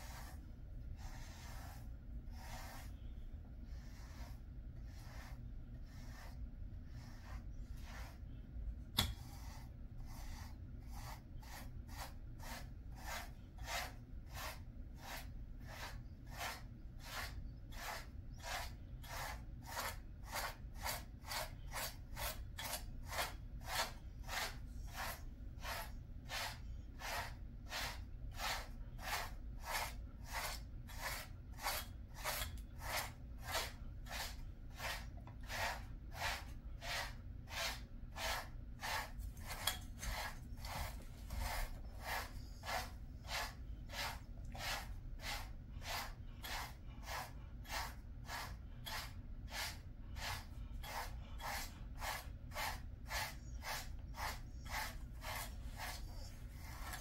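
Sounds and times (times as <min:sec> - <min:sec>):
brush stroking dog's coat: 0:00.0 - 0:08.3, 0:09.2 - 0:57.0
low steady hum: 0:00.0 - 0:57.0.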